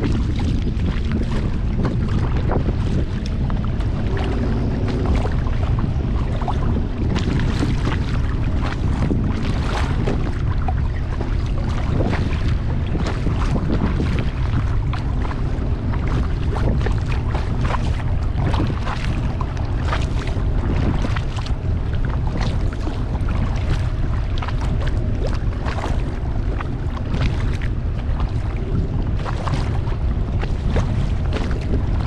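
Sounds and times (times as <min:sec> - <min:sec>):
water splashing against kayak: 0:00.0 - 0:32.0
wind rumble on microphone: 0:00.0 - 0:32.0.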